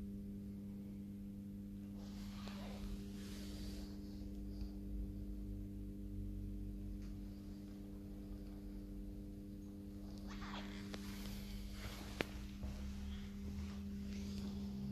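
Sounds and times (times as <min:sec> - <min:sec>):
room background hum: 0:00.0 - 0:14.9.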